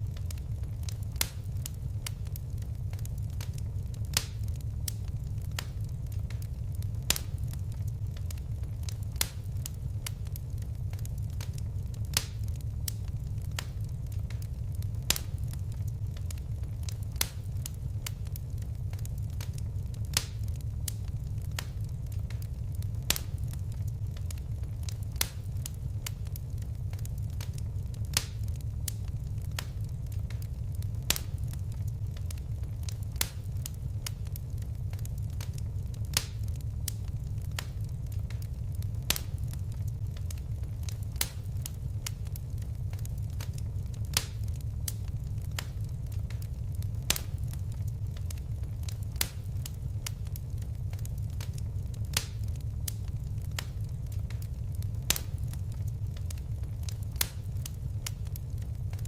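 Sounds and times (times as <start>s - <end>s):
fire crackling: 0.0s - 59.0s
fire flames rumbling: 0.0s - 59.0s
sharp fire pops: 0.0s - 59.0s.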